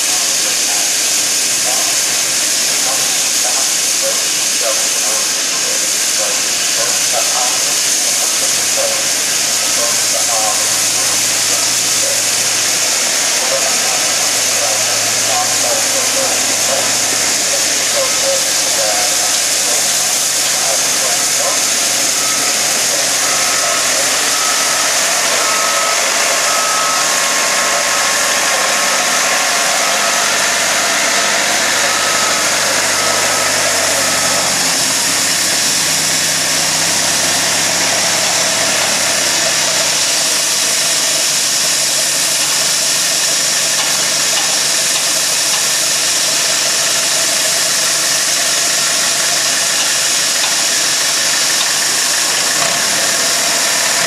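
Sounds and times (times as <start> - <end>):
loud even noise: 0.0 - 54.0
train engine humming: 0.0 - 54.0.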